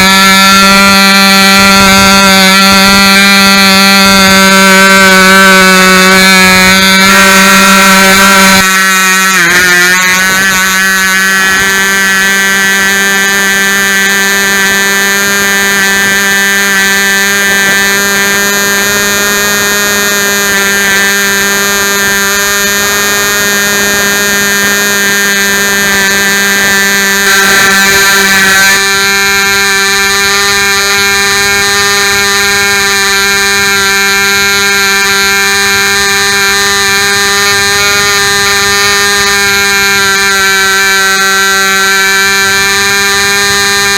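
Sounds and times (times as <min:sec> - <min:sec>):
model airplane engine buzzing: 0:00.0 - 0:43.9.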